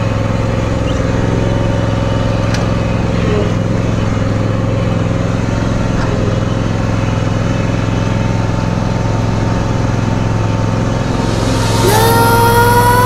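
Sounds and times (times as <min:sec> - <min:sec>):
lawn tractor engine running: 0:00.0 - 0:11.2.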